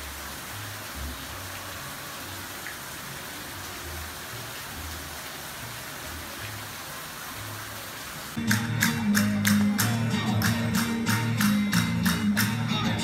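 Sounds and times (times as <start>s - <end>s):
rain on leaves: 0.0s - 12.6s.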